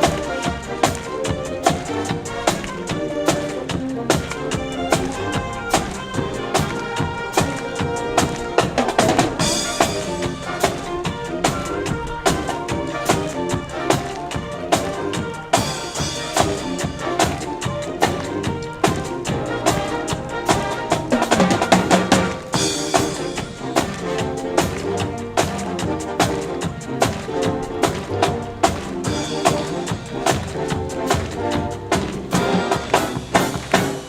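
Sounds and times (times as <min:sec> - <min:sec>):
band music: 0:00.0 - 0:34.0
driving drum beat: 0:00.0 - 0:34.0.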